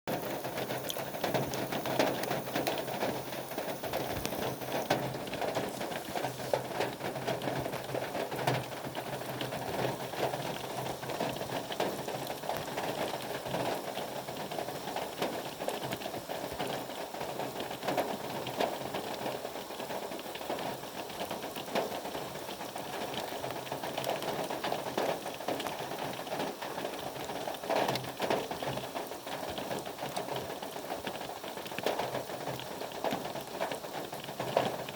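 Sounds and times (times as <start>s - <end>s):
rain on a hard surface: 0.1s - 34.9s.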